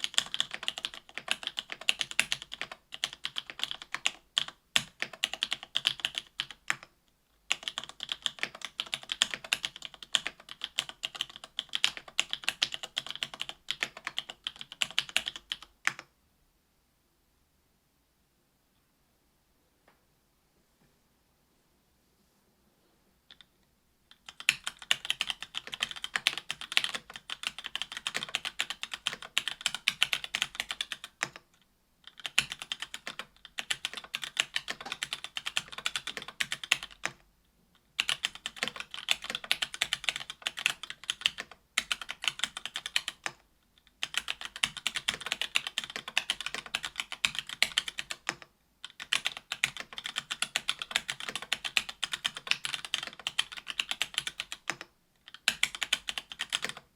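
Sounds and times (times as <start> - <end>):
mechanical keyboard typing: 0.0 - 6.9, 7.5 - 16.1, 24.1 - 37.2, 38.0 - 56.9.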